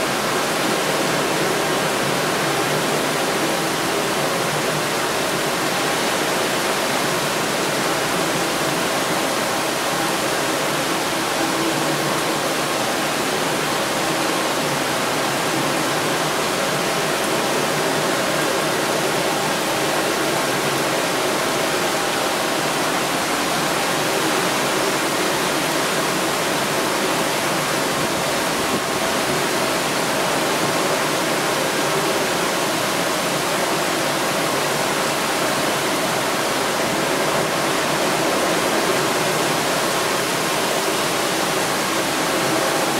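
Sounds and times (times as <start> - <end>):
rain falling steadily: 0.0 - 42.9.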